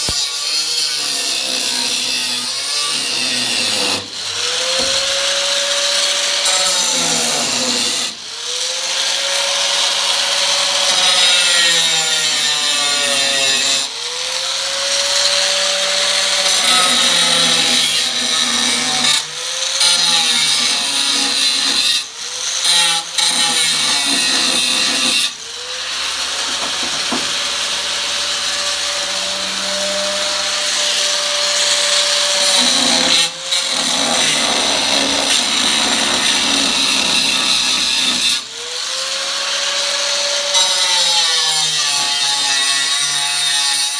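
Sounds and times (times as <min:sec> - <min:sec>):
power tool cutting sheet metal: 0:00.0 - 0:43.9.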